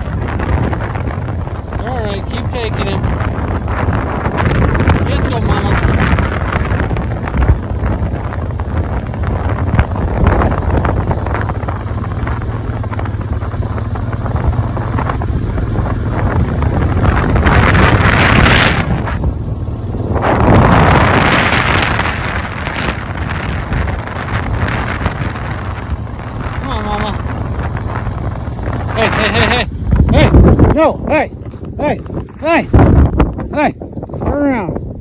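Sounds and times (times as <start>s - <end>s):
wind buffeting microphone: 0.0s - 35.0s
wind gusts rushing: 0.0s - 35.0s.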